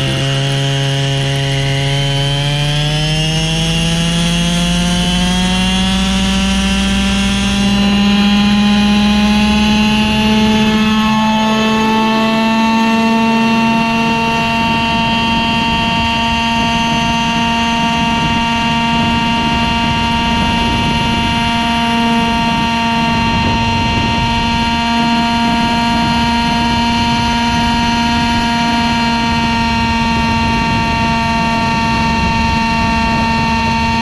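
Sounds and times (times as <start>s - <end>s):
model helicopter whine: 0.0s - 34.0s.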